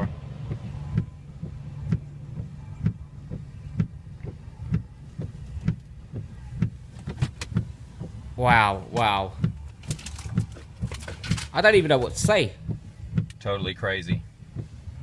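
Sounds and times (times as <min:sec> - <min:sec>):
dull thuds: 0:00.0 - 0:13.4
steady low hum: 0:00.0 - 0:15.0.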